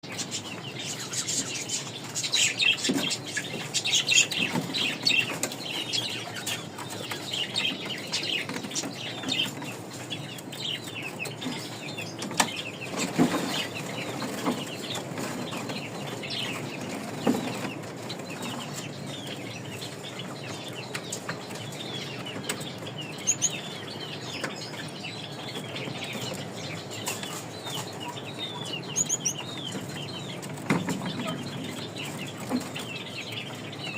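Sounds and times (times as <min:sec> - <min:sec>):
finch chicks chirping: 0:00.0 - 0:33.9.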